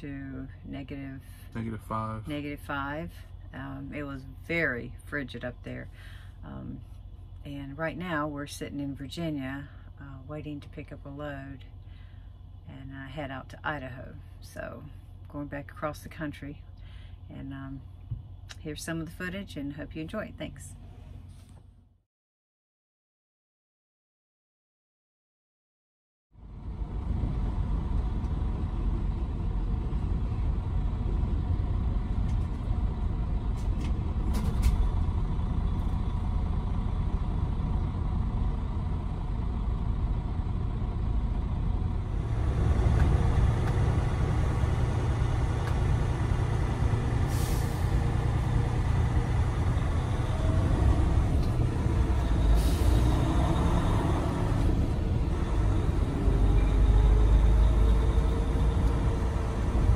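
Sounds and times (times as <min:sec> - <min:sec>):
road noise: 0:00.0 - 0:19.1, 0:26.4 - 0:59.9
truck engine rumble: 0:00.0 - 0:22.0, 0:26.4 - 0:59.9.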